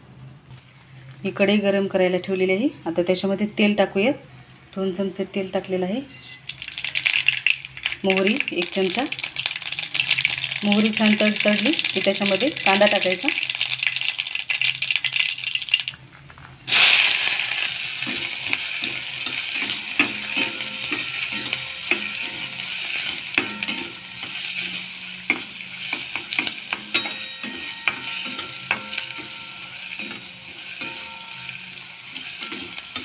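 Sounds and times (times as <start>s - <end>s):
onion sizzling in hot oil: 6.1s - 33.0s.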